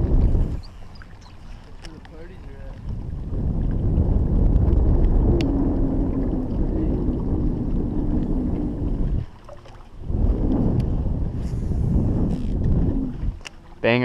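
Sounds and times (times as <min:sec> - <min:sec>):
boat motor rumble: 0:00.0 - 0:14.0.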